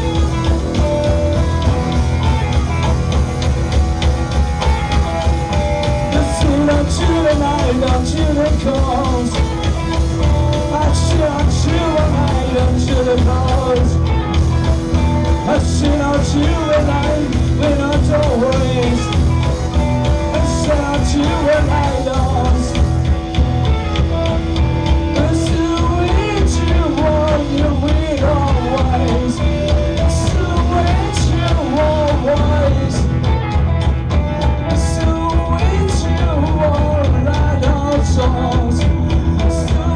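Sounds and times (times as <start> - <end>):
drum kit beat: 0.0 - 39.9
electric guitar lines: 0.0 - 39.9
heavy bass: 0.0 - 39.9.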